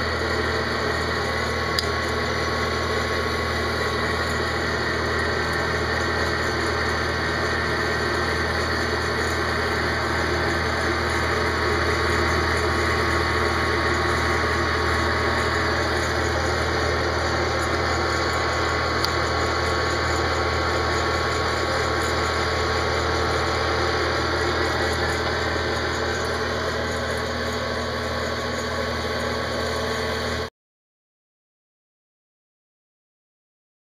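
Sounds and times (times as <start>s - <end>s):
popcorn popper fan whirring: 0.0s - 30.5s.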